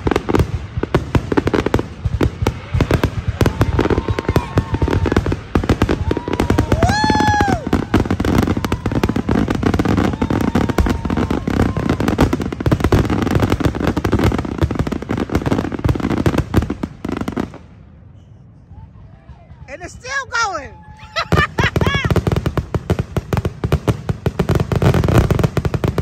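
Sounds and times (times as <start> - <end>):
fireworks bangs and crackles: 0.0 - 18.1, 19.5 - 26.0.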